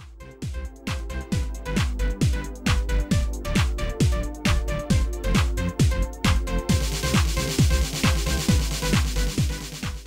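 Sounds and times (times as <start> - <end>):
kick drum beating: 0.0 - 10.0.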